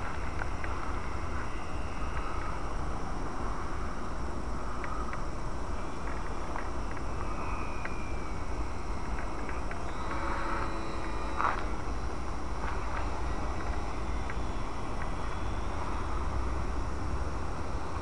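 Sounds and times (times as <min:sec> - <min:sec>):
distant model plane motor whine: 0:00.0 - 0:18.0.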